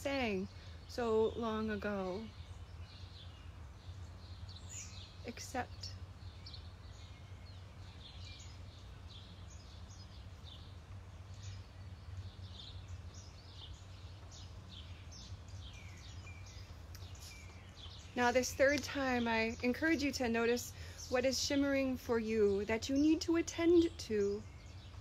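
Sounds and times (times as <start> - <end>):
low outdoor rumble: 0.0 - 25.0
small songbirds chirping: 0.0 - 25.0.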